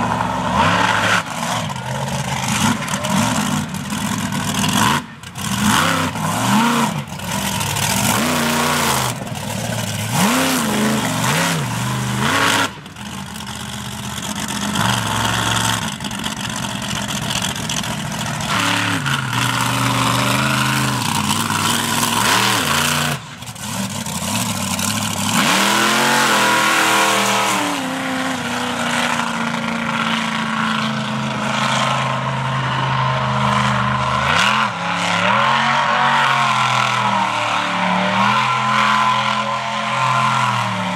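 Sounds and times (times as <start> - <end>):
monster truck engines revving: 0.0 - 40.9.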